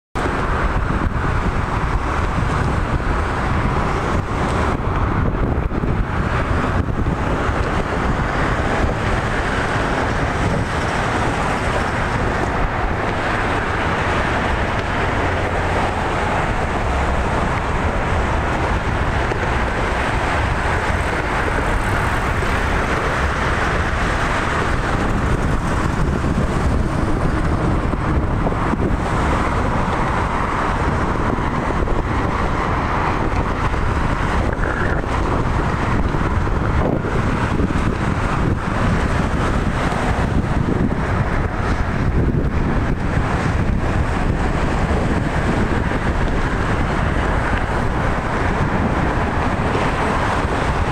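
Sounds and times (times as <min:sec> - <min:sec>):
road traffic noise: 0:00.1 - 0:50.9.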